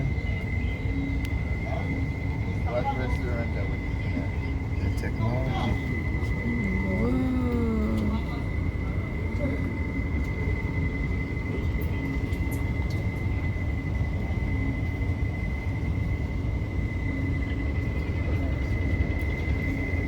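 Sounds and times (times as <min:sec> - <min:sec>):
steady low rumble: 0:03.6 - 0:19.7.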